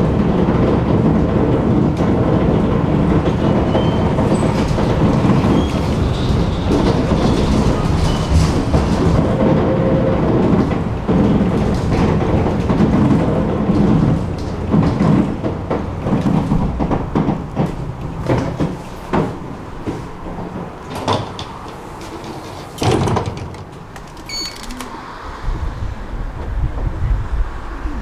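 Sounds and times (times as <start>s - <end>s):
clunks and knocks: 0.0s - 24.9s
tram rumbling on rails: 0.0s - 28.0s.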